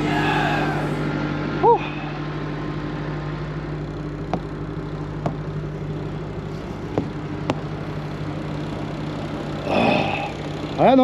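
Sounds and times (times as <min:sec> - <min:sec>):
diesel truck engine idling: 0:00.0 - 0:01.3, 0:02.6 - 0:11.0.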